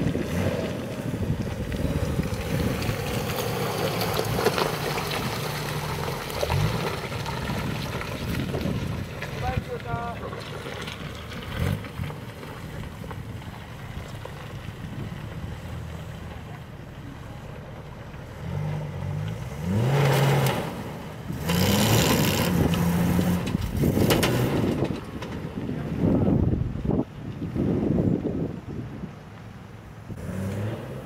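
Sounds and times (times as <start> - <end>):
off-road vehicle engine revving: 0.0 - 27.0, 30.0 - 31.0.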